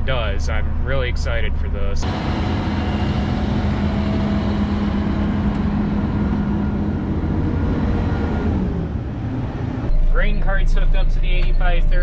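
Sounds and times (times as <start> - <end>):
combine engine drone: 0.0 - 12.0.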